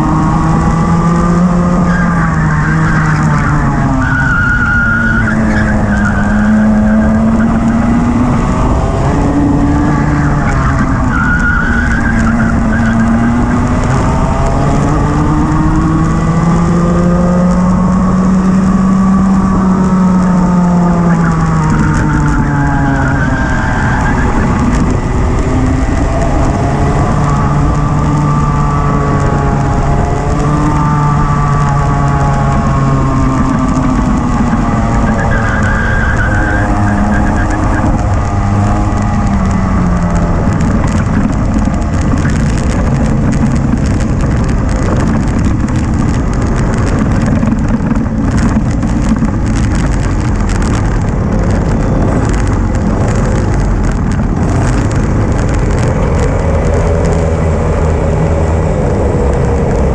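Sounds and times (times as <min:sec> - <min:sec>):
kart engine revving: 0:00.0 - 0:59.9
rough even rumble: 0:00.0 - 0:59.9.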